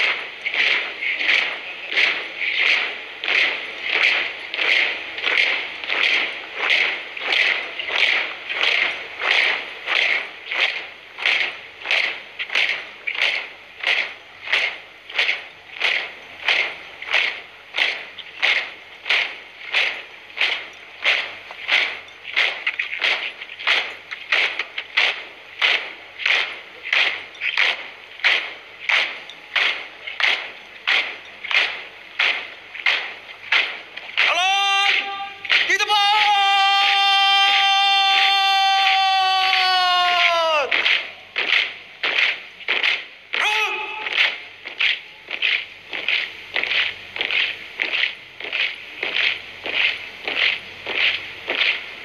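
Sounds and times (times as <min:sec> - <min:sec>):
marching footsteps: 0:00.0 - 0:52.0.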